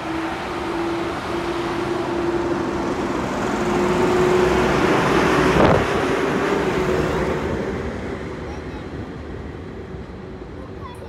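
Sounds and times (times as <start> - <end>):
electric locomotive whine: 0.0 - 10.5.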